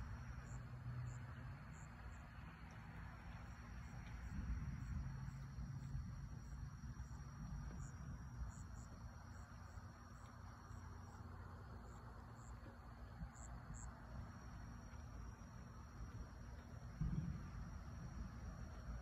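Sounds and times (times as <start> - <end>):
insects chirping: 0.0 - 19.0
steady low rumble: 0.0 - 19.0.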